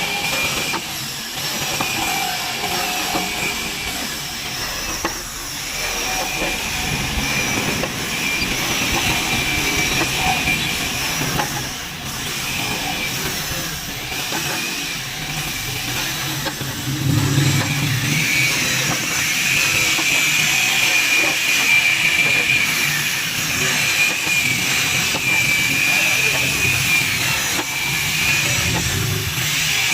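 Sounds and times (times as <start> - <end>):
woodworking power tool whining: 0.0 - 29.9.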